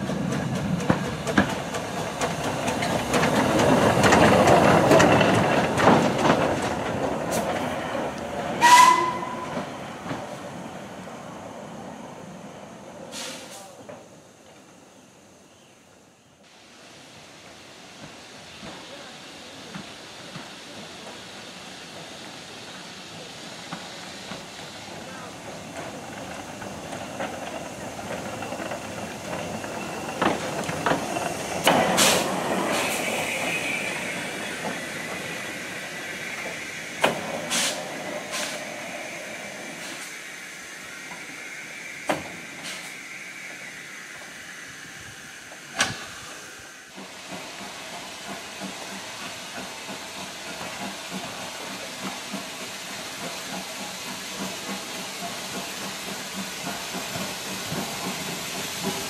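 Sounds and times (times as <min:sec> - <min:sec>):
steam locomotive hissing: 0:00.0 - 0:59.0.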